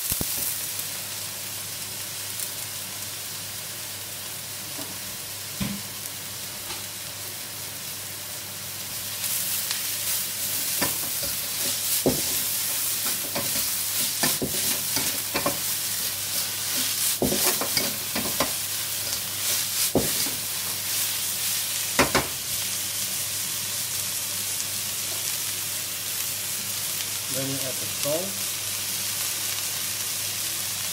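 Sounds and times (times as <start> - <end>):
vegetables sizzling in a wok: 0.0 - 30.9.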